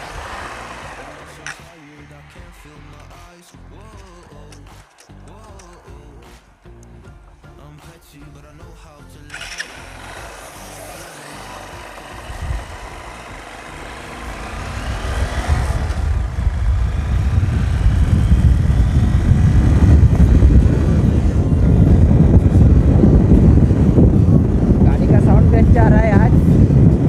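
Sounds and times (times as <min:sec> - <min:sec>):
wind rumble: 0:00.0 - 0:07.6, 0:09.4 - 0:27.0
motorcycle engine accelerating: 0:00.0 - 0:08.6, 0:09.2 - 0:27.0.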